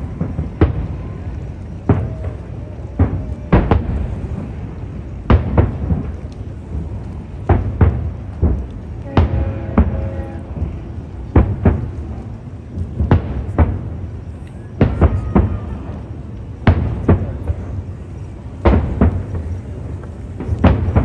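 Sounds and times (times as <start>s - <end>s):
firework shells booming: 0.0s - 21.0s
low rumble: 0.0s - 21.0s.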